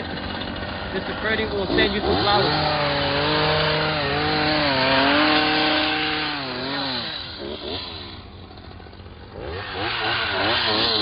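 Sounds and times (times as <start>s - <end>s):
hedge trimmer engine revving: 0.0s - 11.0s.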